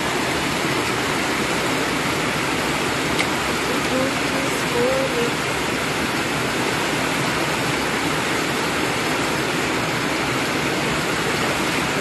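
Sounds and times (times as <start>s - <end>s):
water rushing through a channel: 0.0s - 12.0s.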